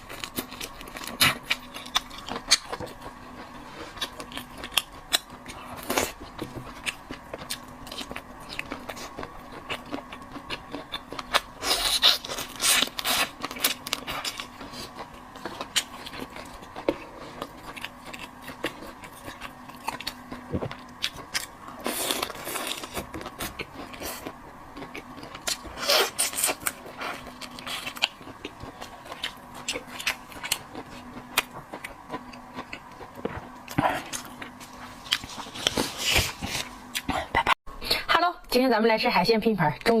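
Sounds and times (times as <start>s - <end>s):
chewing and crunching: 0.0s - 37.6s.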